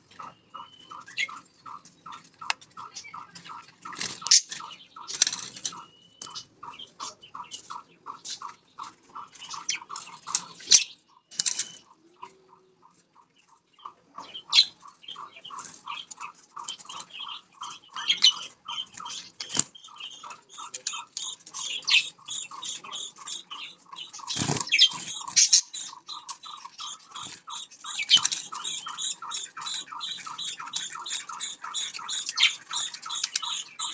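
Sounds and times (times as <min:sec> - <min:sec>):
budgerigars chirping: 0:00.0 - 0:33.9
budgie squawks and clicks: 0:00.1 - 0:33.9.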